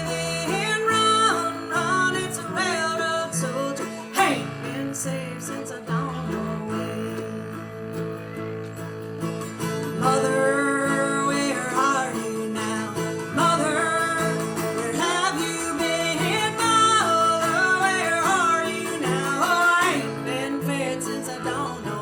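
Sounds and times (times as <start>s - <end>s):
acoustic guitar: 0.0s - 22.0s
bending lead melody: 0.0s - 22.0s
bluegrass band playing: 0.0s - 22.0s.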